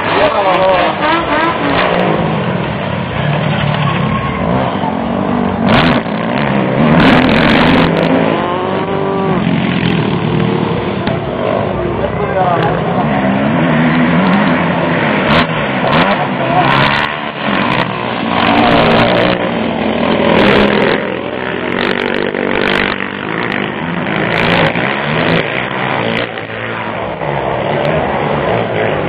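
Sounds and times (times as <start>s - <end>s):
motorcycles revving past: 0.0s - 29.0s.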